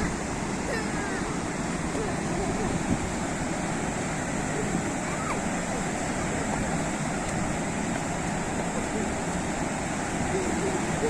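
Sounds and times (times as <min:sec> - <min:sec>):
sea surf washing ashore: 0:00.0 - 0:11.0.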